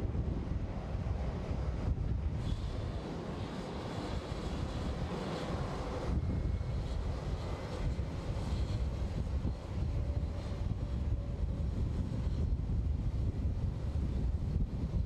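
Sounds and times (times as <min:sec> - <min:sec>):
jet airliner taxiing: 0:00.0 - 0:15.0.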